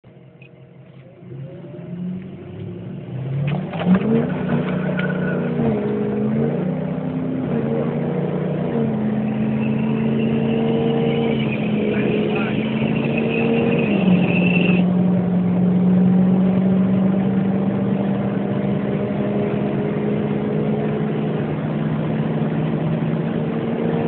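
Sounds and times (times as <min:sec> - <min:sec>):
diesel truck engine accelerating: 0:00.0 - 0:24.0.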